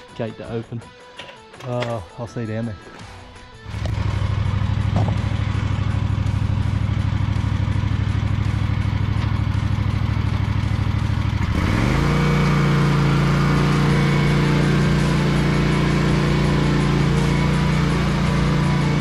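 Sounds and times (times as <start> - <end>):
mower engine idling and revving: 2.9 - 19.0.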